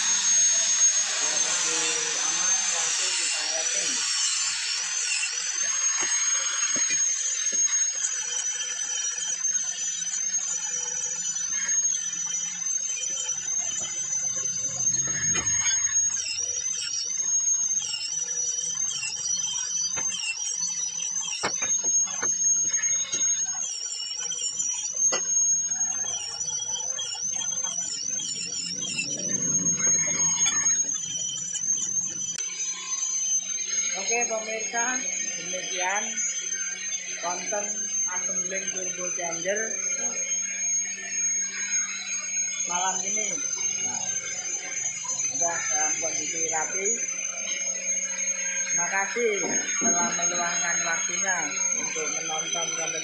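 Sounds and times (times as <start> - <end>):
high-pitched wavering whine: 0.0 - 53.0.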